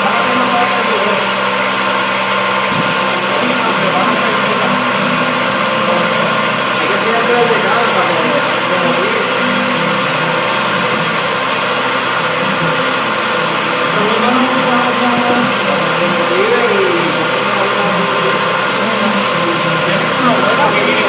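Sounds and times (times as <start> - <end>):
milling machine running: 0.0 - 21.0.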